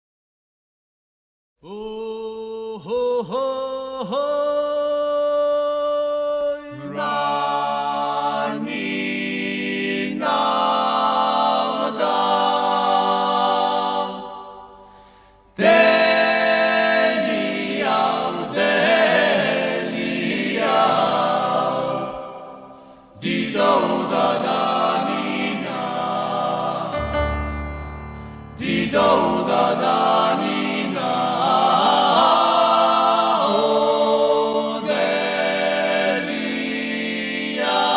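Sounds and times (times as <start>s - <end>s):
choir singing held chords: 2.4s - 37.9s.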